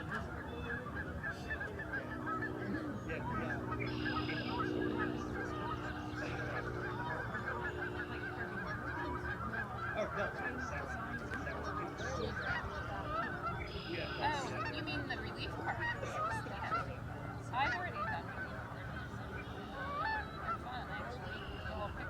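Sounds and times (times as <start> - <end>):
low hum: 0.0 - 20.5
geese honking: 0.0 - 22.0.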